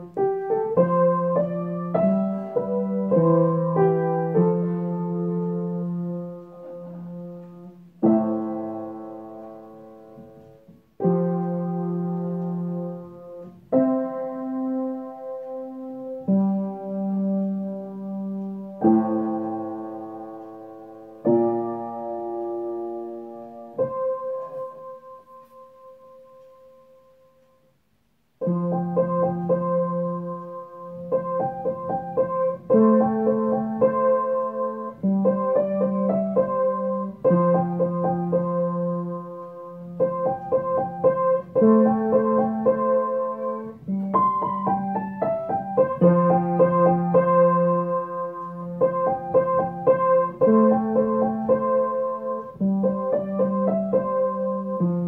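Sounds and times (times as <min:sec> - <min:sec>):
piano music: 0:00.0 - 0:27.7, 0:28.4 - 0:55.0.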